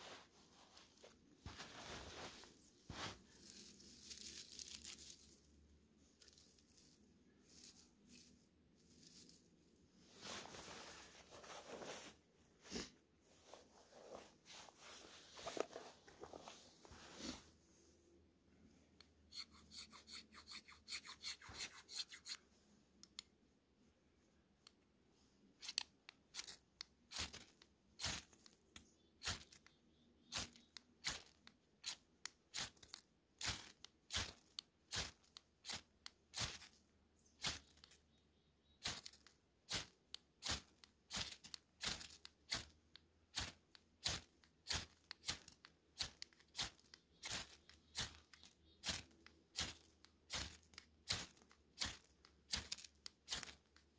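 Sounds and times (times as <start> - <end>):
small scratchy sounds: 0.0 - 18.0, 18.6 - 23.3, 25.2 - 53.9.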